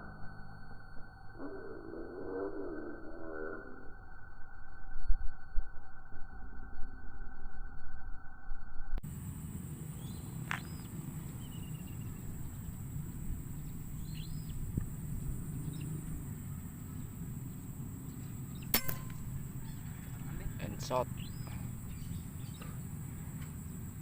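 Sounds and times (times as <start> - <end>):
high insect drone: 0.0 - 24.0
low rumble: 3.7 - 23.2.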